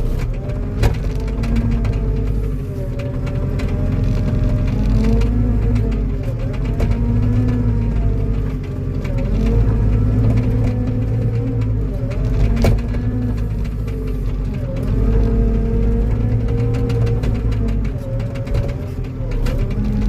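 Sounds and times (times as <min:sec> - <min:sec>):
diesel engine working hard: 0:00.0 - 0:20.0.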